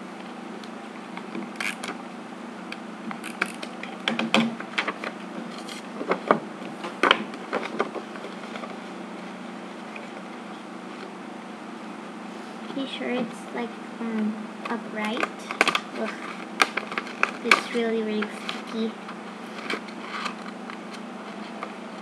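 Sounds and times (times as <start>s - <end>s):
steady low hum: 0.0s - 22.0s
tape and paper crackling: 0.6s - 2.0s, 2.7s - 11.1s, 14.2s - 22.0s.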